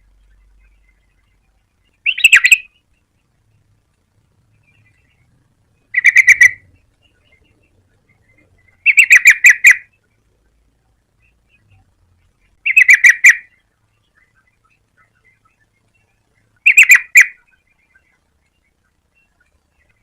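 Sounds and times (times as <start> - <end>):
bulbul chattering call: 0.0 - 3.3, 4.6 - 10.2, 11.2 - 20.0.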